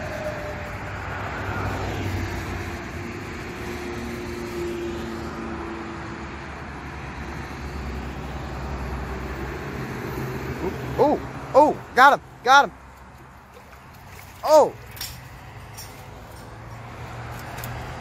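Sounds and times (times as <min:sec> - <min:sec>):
distant engine hum: 0:00.0 - 0:18.0.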